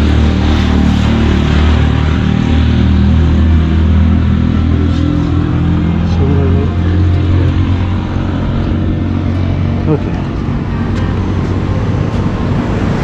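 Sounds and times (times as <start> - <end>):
engine low drone: 0.0 - 13.0.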